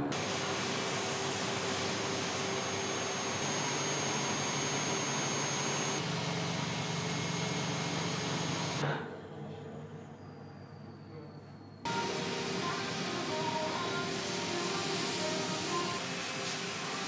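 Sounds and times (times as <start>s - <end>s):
machine running with loud hiss: 0.0s - 8.9s, 11.9s - 17.0s
faint high whine: 0.2s - 8.8s, 9.9s - 17.0s.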